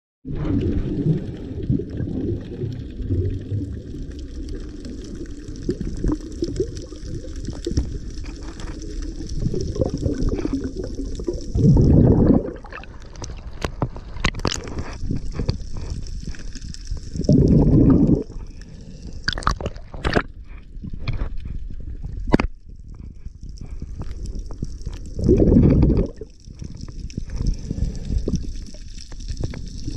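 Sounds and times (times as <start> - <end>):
underwater rumble of moving water: 0.2 - 29.9
scuba exhaust bubbles gurgling: 0.3 - 20.2, 22.9 - 29.9.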